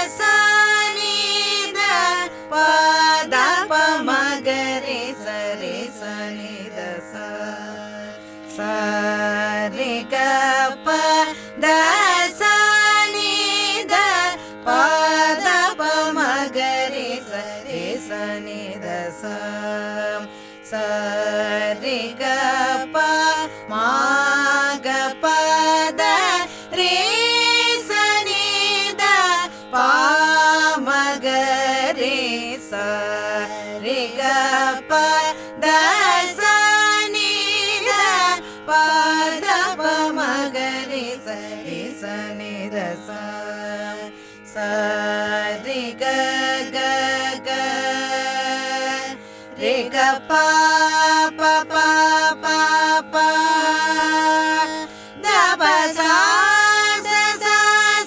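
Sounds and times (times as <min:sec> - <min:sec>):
woman singing: 0:00.0 - 0:58.0.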